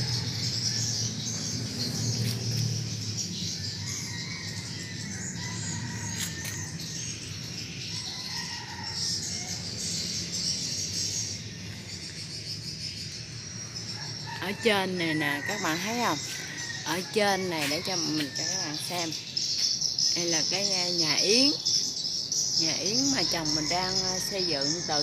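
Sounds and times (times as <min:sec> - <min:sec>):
birds chirping and twittering: 0:00.0 - 0:25.0.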